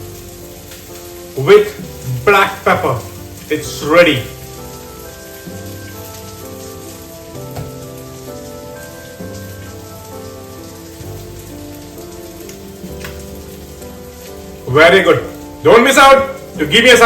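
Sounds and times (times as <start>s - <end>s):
instrumental music with sustained chords: 3.0s - 17.0s.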